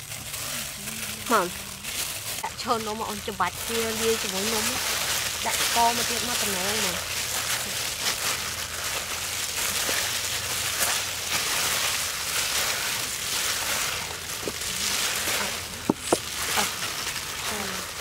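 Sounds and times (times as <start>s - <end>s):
batter squishing: 0.0s - 18.0s
plastic gloves crinkling: 0.0s - 18.0s.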